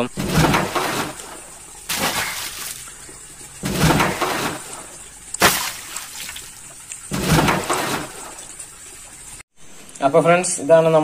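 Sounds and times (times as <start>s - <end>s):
water splashing in steel basin: 0.2s - 9.4s.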